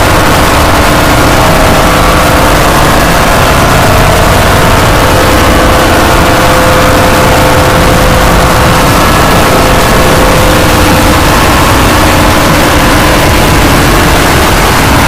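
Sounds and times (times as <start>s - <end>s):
clipped distorted noise: 0.0s - 15.0s.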